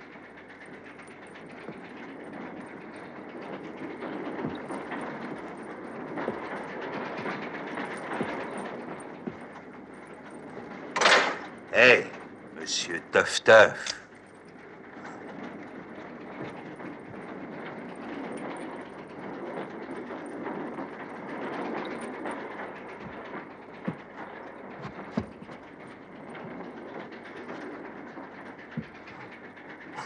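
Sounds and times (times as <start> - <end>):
railway carriage noise: 0.0 - 30.0.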